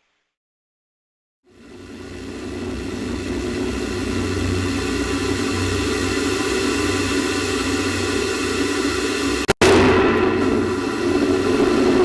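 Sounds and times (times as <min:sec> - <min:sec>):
deep rocket motor rumble: 0:01.5 - 0:12.0.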